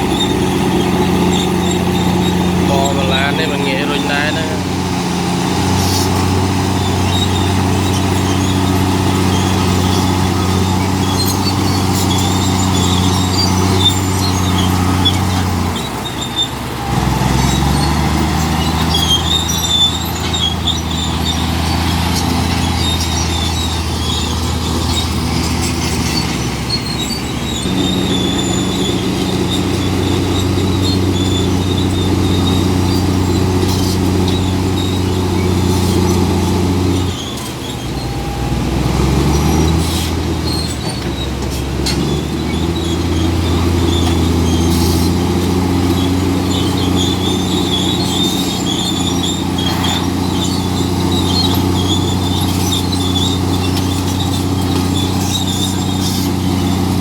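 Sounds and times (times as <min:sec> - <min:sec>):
bulldozer diesel engine: 0:00.0 - 0:57.0
high squeaks: 0:00.0 - 0:57.0.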